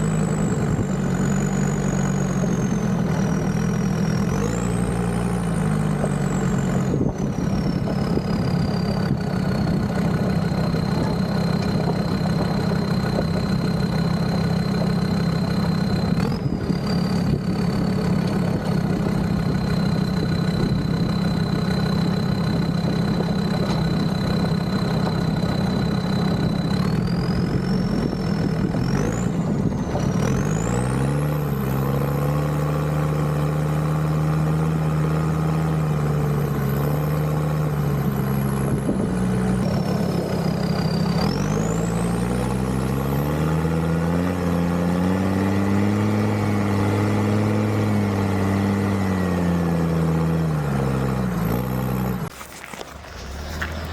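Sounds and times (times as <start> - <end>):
diesel engine running: 0.0 - 53.9
high engine whine: 0.0 - 53.9.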